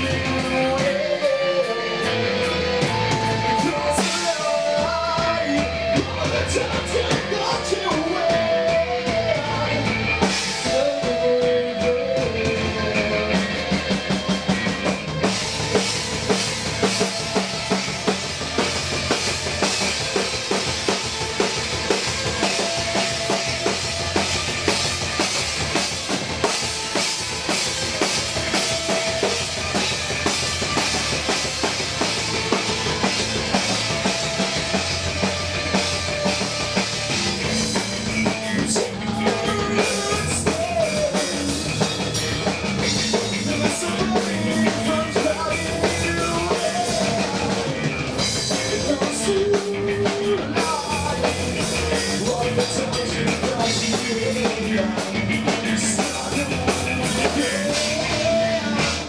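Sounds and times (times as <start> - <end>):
drum kit and cymbals: 0.0 - 59.0
electric guitar: 0.0 - 59.0
live rock band playing: 0.0 - 59.0.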